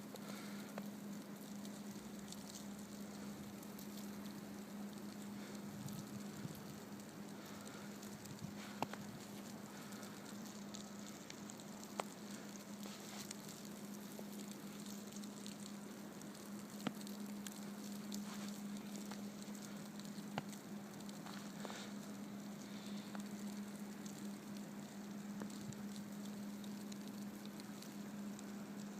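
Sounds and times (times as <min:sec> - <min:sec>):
constant low hum: 0:00.0 - 0:28.9.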